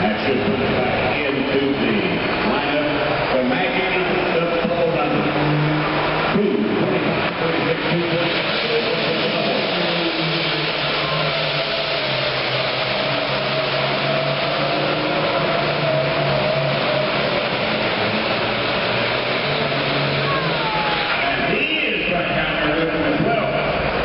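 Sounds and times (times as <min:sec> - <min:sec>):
tractor engine running loud: 0:00.0 - 0:24.0
dense hiss: 0:01.1 - 0:22.8.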